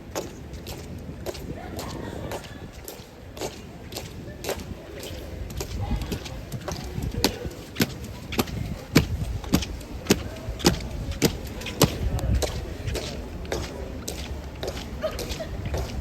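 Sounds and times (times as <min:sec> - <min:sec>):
boots marching on pavement: 0:00.0 - 0:16.0
steady low rumble: 0:00.0 - 0:16.0.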